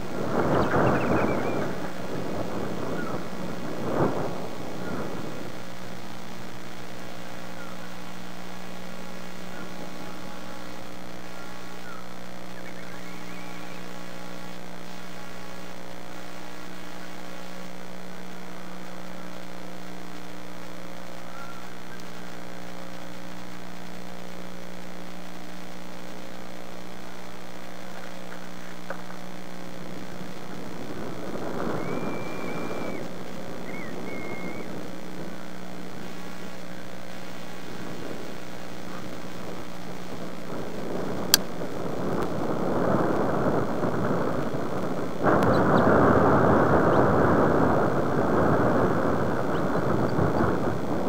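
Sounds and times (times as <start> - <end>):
electrical mains hum: 0.0 - 51.0
rush of noise: 0.0 - 51.0.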